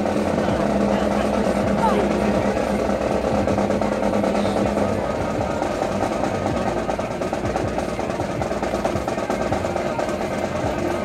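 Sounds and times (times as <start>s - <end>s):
drums and percussion music: 0.0s - 11.0s.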